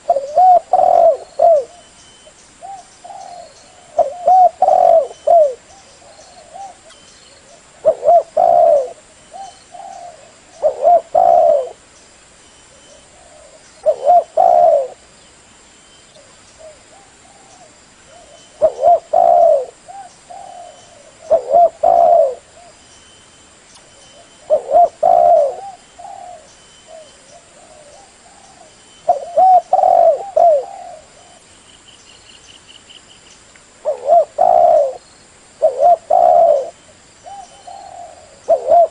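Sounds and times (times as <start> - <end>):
dove cooing: 0.0 - 11.8, 12.7 - 15.1, 16.2 - 22.8, 24.0 - 31.5, 33.8 - 35.0, 35.6 - 38.9.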